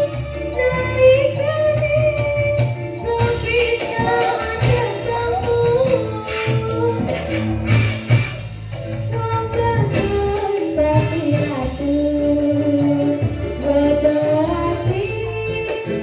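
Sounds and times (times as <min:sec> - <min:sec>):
bass: 0:00.0 - 0:16.0
drums: 0:00.0 - 0:16.0
keyboard: 0:00.0 - 0:16.0.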